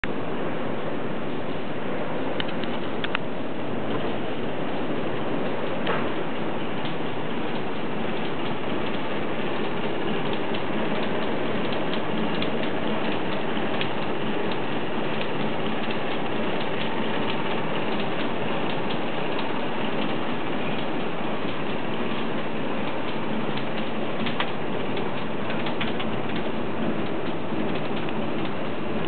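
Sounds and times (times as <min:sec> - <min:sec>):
forging press running: 0:03.6 - 0:29.0.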